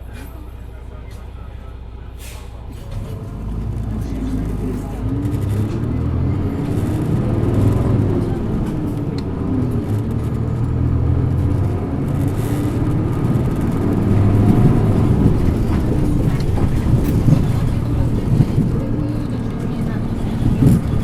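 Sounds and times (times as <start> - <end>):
bus diesel engine accelerating: 0.0 - 21.0.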